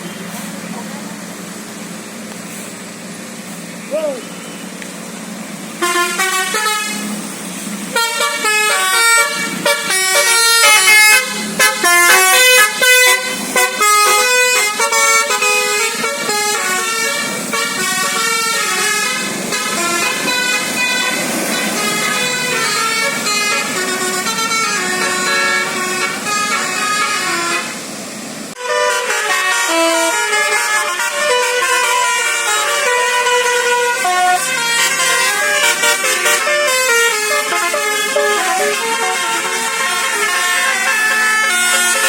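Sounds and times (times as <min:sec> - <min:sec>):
musical air horn tune: 0:05.8 - 0:07.1, 0:07.9 - 0:27.8, 0:28.6 - 0:42.0.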